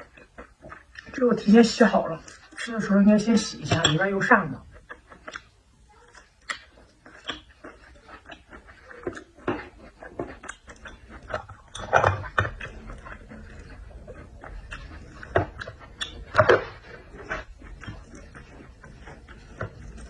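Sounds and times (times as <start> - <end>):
mouth clicks and smacks: 0.0 - 20.0
wet chewing and sucking: 0.0 - 20.0.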